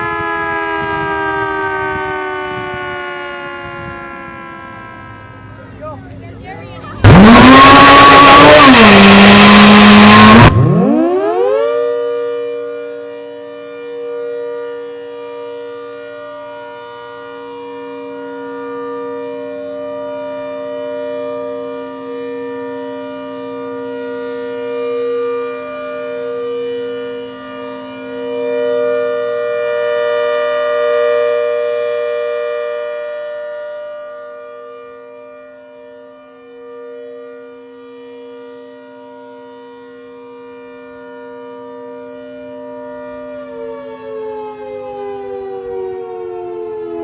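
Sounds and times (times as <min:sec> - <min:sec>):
warning siren: 0:00.0 - 0:47.0.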